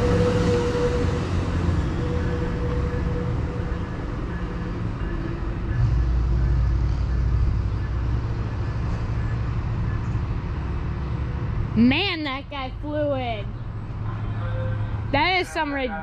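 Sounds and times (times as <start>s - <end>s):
passenger train rumbling: 0.0s - 16.0s.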